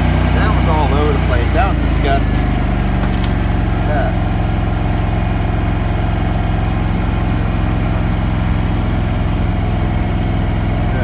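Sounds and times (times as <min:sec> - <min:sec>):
welding generator engine running: 0:00.0 - 0:11.0.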